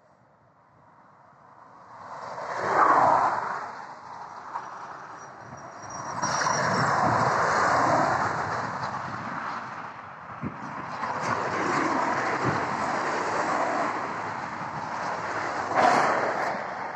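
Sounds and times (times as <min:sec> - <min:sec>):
cars passing on motorway: 0:00.2 - 0:16.9.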